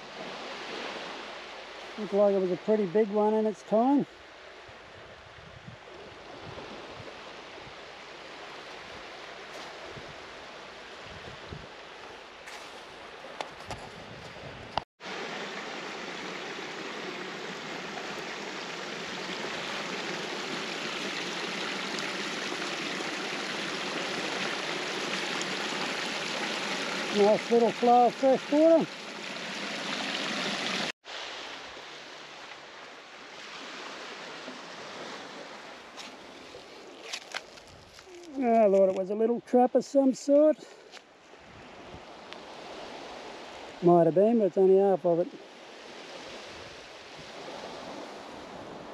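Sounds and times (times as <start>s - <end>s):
small waves on sandy beach: 0.0s - 48.9s
stream trickling and gurgling: 0.0s - 48.9s.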